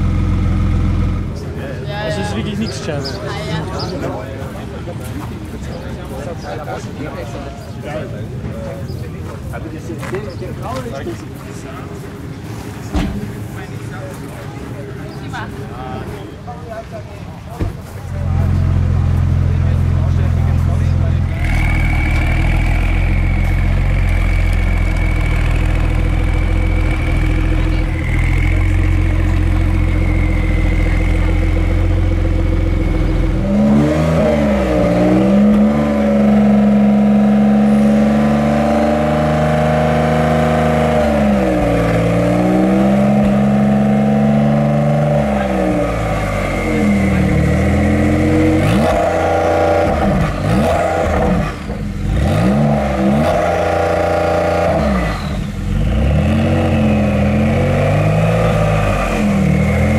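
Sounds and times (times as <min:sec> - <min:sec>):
car engine idling and revving: 0:00.0 - 0:07.3, 0:17.6 - 0:59.9.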